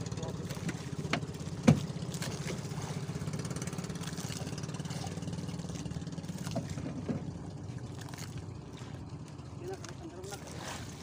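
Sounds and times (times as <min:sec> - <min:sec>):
small boat engine idling: 0:00.0 - 0:11.0.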